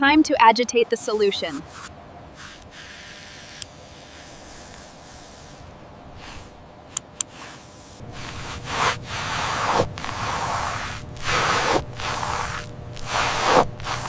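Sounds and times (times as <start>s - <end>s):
spray hissing: 1.0s - 6.6s, 7.2s - 14.0s.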